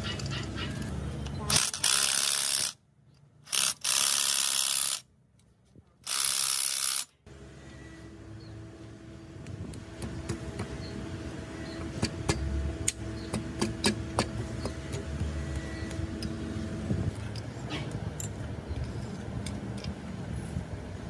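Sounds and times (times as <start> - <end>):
background hum and rumble: 0.0 - 21.0.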